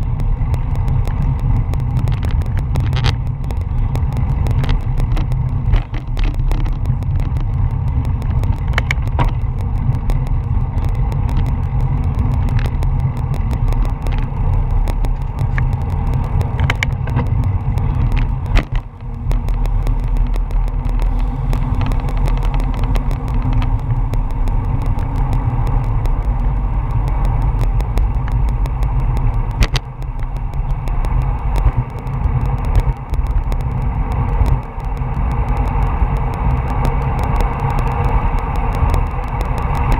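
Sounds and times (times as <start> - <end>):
road and tyre rumble: 0.0 - 39.9
sharp clicks: 0.0 - 39.9
wind buffeting microphone: 0.0 - 39.9.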